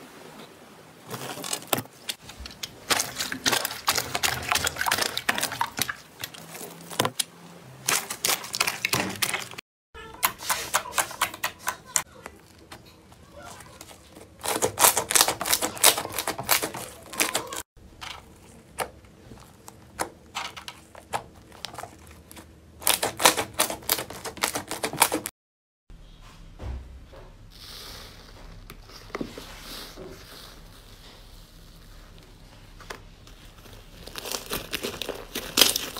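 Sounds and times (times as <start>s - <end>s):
soft crinkling: 0.3s - 9.6s, 11.8s - 25.2s, 27.5s - 35.9s.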